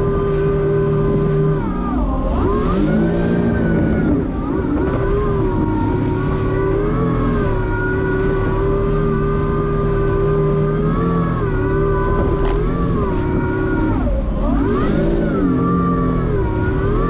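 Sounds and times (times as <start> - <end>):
jet ski engine whining: 0.0 - 17.0.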